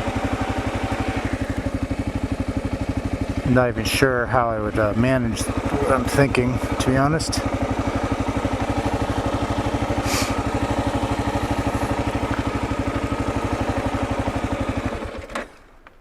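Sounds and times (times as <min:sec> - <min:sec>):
motorcycle engine idling: 0:00.0 - 0:15.5.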